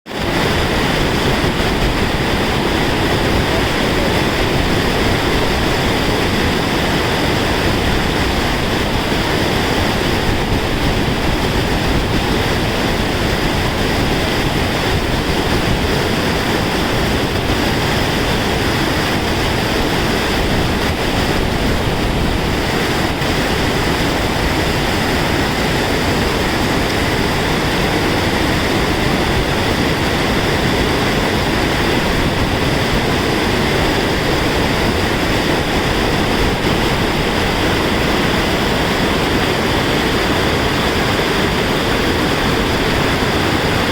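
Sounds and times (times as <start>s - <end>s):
rushing flowing water: 0.1s - 43.9s.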